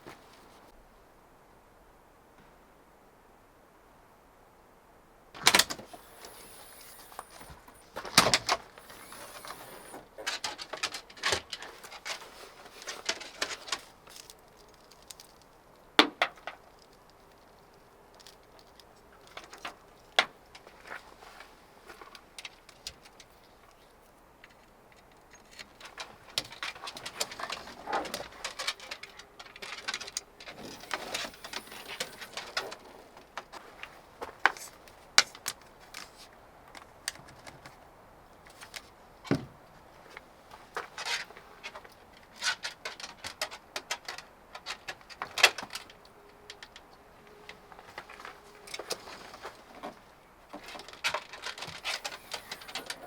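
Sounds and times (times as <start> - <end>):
objects clicking and clattering: 5.4 - 36.2, 41.0 - 53.0.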